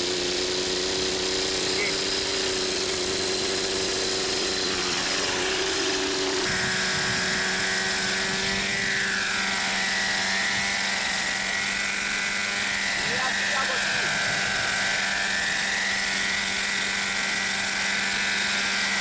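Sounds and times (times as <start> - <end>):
high engine whine: 0.0 - 19.0
model helicopter engine running: 0.0 - 19.0.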